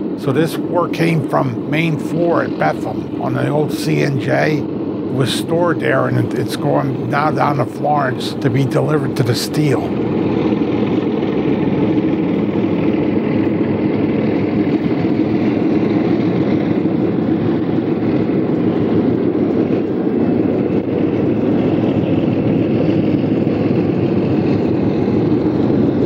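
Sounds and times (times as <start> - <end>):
diesel locomotives passing: 0.0 - 26.0.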